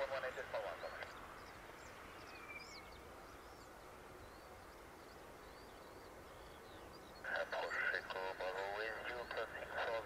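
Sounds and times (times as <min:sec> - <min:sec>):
faint steady hiss: 0:00.0 - 0:10.0
small birds chirping: 0:00.0 - 0:10.0.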